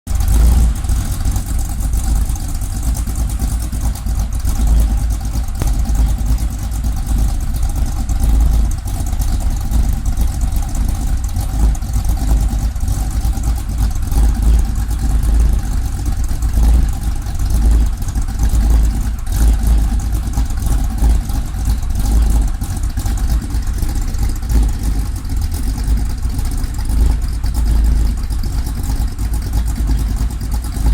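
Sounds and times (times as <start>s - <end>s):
car engine running steadily: 0.0s - 30.9s.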